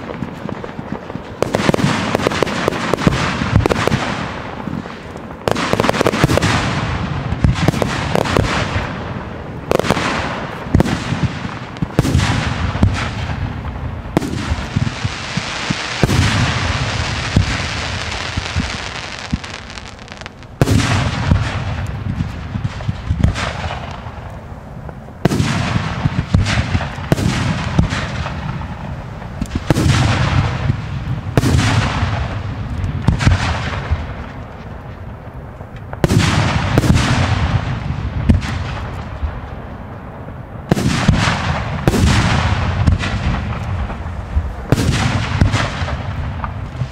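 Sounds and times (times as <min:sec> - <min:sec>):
fireworks bangs: 0:00.0 - 0:46.9
fireworks crackling and hiss: 0:00.0 - 0:46.9.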